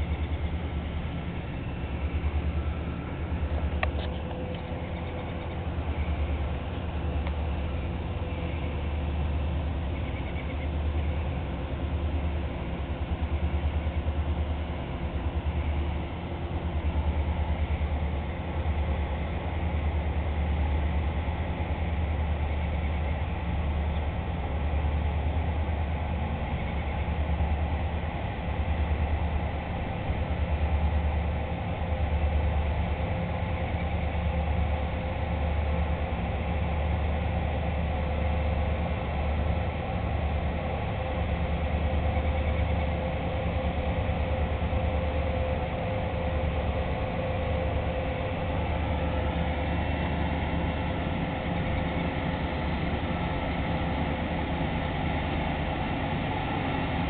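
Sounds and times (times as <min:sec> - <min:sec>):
boat diesel engines droning: 0:00.0 - 0:57.0.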